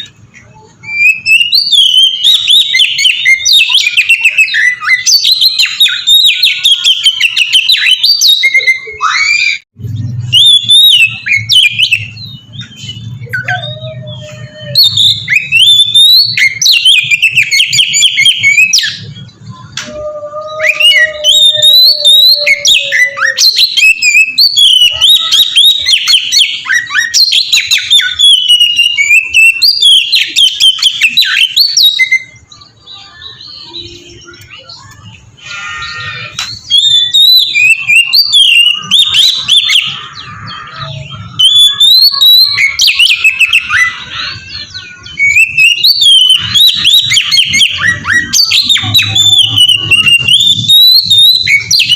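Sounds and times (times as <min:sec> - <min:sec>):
bird singing whistles and trills: 0:00.0 - 0:51.9.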